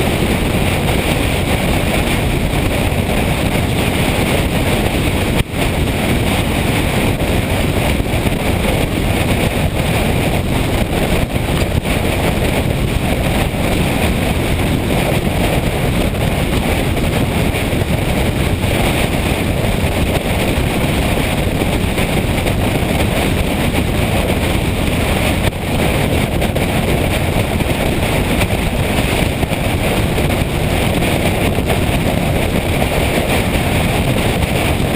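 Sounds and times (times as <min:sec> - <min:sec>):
motorcycle engine: 0:00.0 - 0:34.9
wind rushing over microphone: 0:00.0 - 0:34.9.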